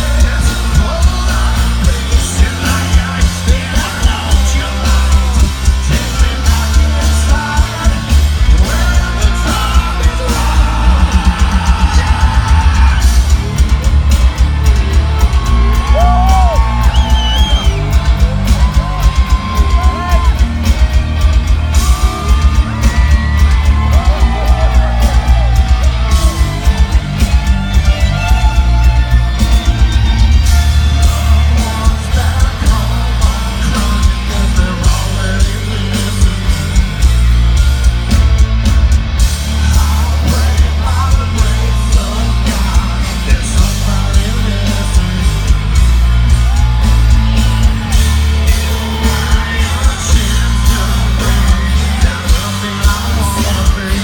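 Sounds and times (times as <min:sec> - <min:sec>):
person singing: 0:00.0 - 0:37.2, 0:39.3 - 0:54.0
heavy metal band playing live: 0:00.0 - 0:54.0.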